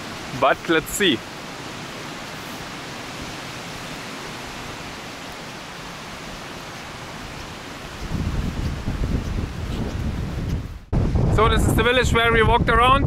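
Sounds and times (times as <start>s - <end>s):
wind through trees: 0.0s - 13.0s.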